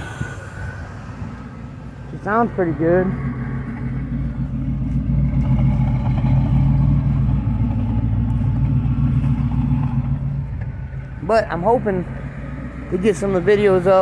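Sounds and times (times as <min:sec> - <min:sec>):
car engine running: 0:01.7 - 0:14.0.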